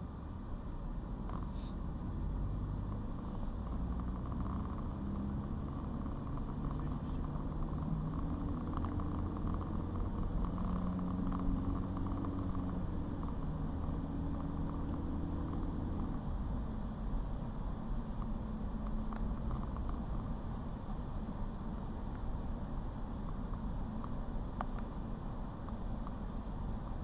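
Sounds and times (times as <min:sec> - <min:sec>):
car engine hum: 0:00.0 - 0:27.0
road rumble: 0:00.0 - 0:27.0.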